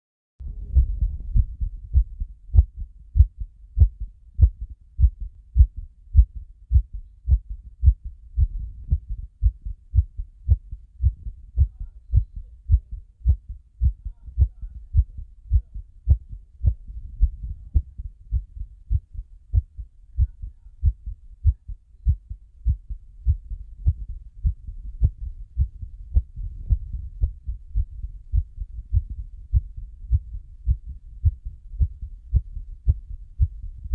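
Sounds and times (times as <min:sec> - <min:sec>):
heartbeat: 0:00.4 - 0:33.9.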